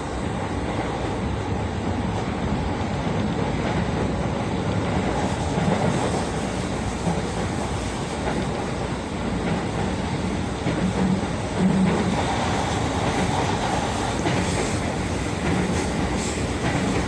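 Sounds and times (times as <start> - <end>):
rumble of train wheels on rail: 0.0 - 17.0.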